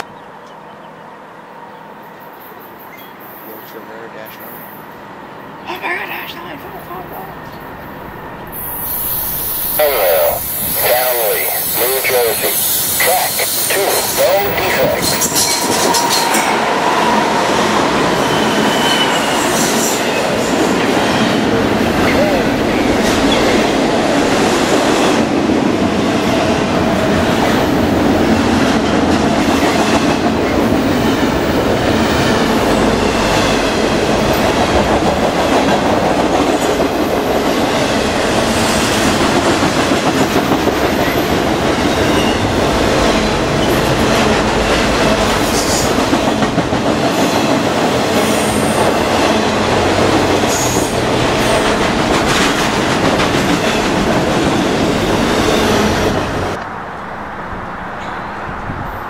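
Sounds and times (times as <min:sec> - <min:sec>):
train wheels rumbling and clacking: 0:05.7 - 0:56.7.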